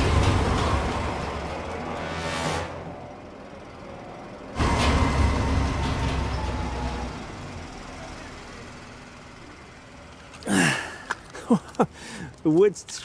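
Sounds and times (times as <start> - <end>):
road roller engine rumbling: 0.0 - 13.0.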